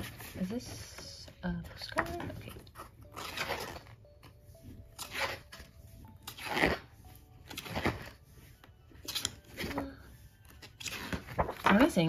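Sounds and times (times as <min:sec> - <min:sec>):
photo book pages turning: 0:00.0 - 0:12.0.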